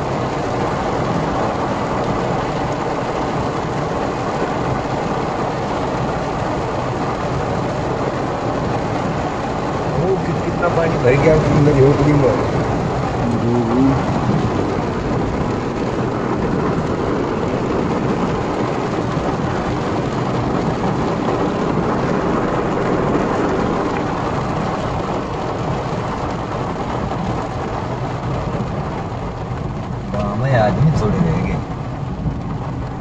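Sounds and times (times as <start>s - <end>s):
car road noise: 0.0s - 33.0s
heavy rain drumming on car roof: 0.0s - 33.0s.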